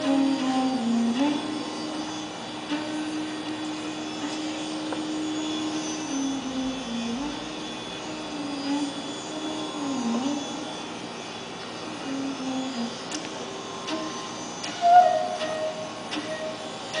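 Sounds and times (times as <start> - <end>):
bamboo flute long low note: 0.0 - 17.0.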